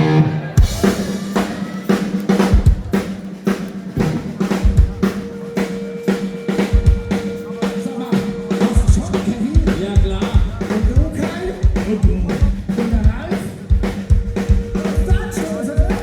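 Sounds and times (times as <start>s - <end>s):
drum kit playing steady beat: 0.0s - 16.0s.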